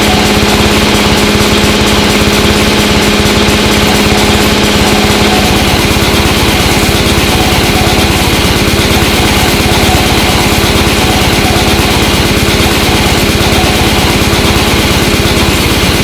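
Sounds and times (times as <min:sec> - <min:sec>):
harsh noise music: 0:00.0 - 0:16.0
rattling bass pulse: 0:00.0 - 0:16.0.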